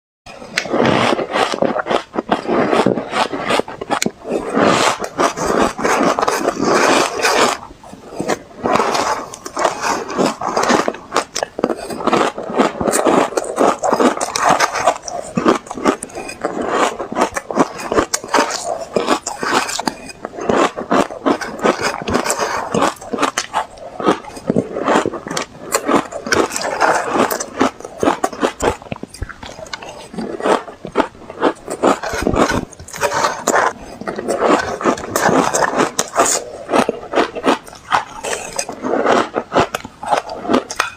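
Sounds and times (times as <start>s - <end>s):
ice being chewed: 0.3s - 40.9s.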